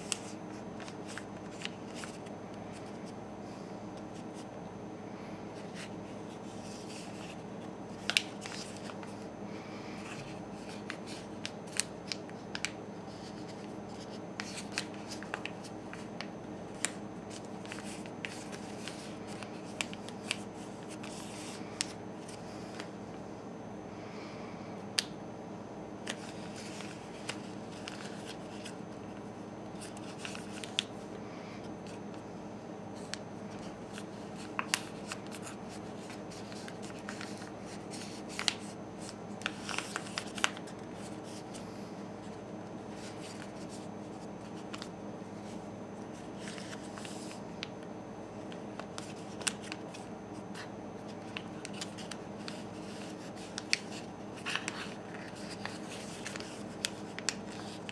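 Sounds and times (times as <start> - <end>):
paper crackling and rustling: 0.0 - 3.2, 5.6 - 9.2, 10.0 - 22.9, 26.0 - 31.0, 33.0 - 47.8, 48.4 - 57.9
steady low hum: 0.0 - 57.9.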